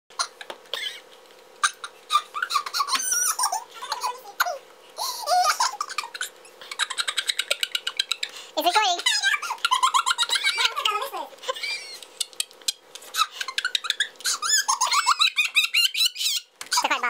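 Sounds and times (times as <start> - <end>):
boy laughing: 1.6 - 16.8.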